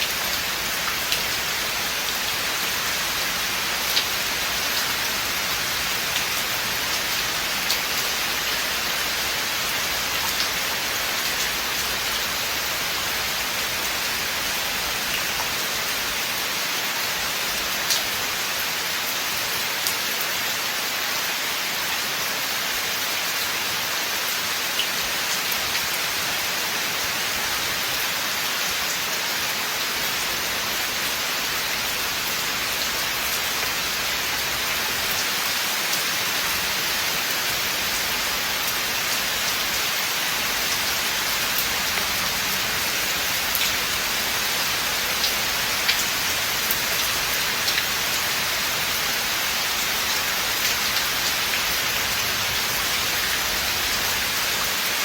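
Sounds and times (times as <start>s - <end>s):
steady rain in forest: 0.0s - 55.0s.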